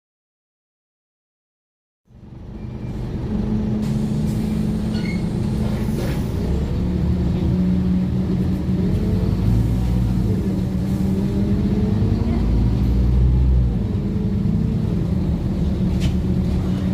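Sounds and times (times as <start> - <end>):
bus diesel engine running: 2.1 - 16.9.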